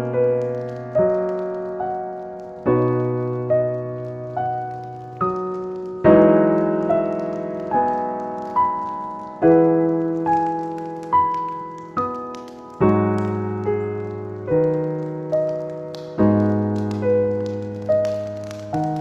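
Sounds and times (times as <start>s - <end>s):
slow solo piano: 0.0s - 19.0s
wood fire crackling: 0.0s - 19.0s.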